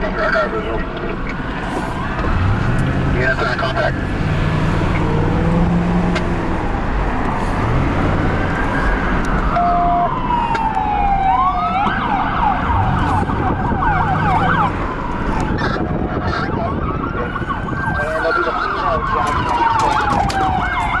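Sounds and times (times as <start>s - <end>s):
vehicle engine and road noise: 0.0s - 21.0s
police siren wailing and yelping: 0.1s - 21.0s.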